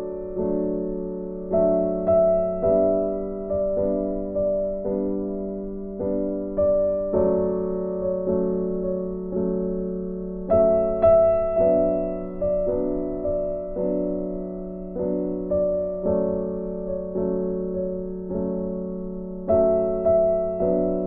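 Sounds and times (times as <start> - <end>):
slow gentle piano chords: 0.0 - 21.0.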